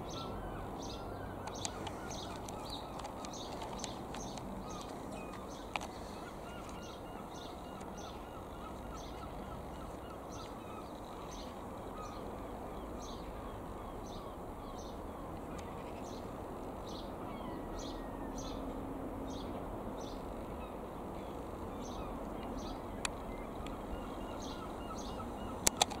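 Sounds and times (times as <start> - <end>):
distant light aircraft drone: 0.0 - 26.0
small birds chirping: 0.0 - 26.0.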